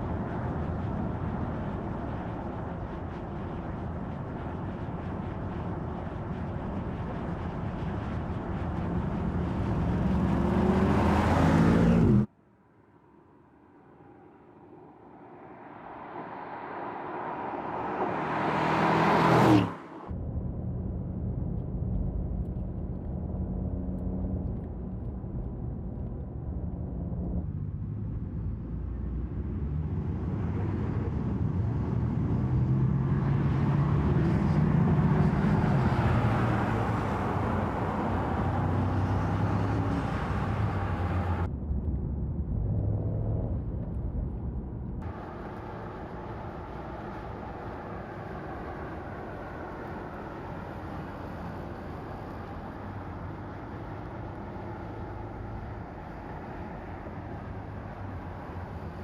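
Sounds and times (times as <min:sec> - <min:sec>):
car engine and exhaust driving: 0:00.0 - 0:59.0.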